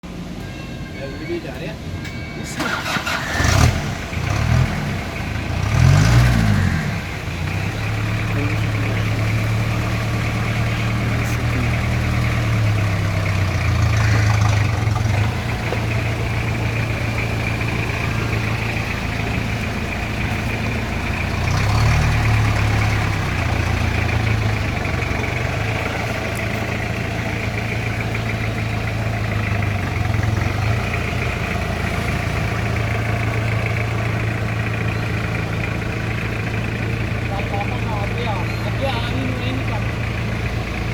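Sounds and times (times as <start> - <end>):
jeep engine idling and revving: 0.0 - 40.9.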